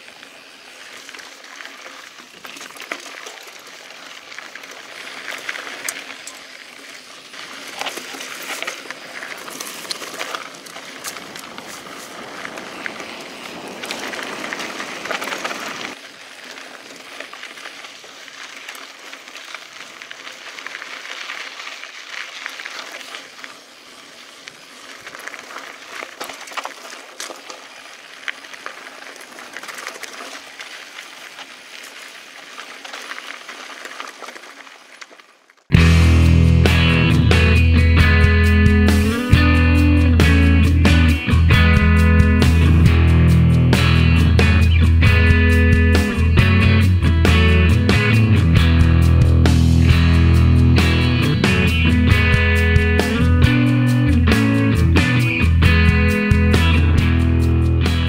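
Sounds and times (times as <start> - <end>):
bike clicks and rattles: 0.0 - 58.0
bike tyres on gravel: 0.0 - 58.0.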